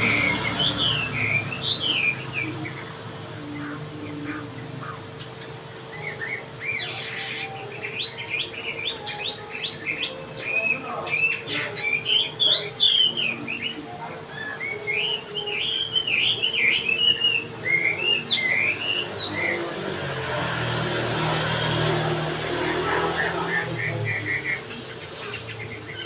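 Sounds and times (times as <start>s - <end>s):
songbird chirping and warbling: 0.0s - 26.0s.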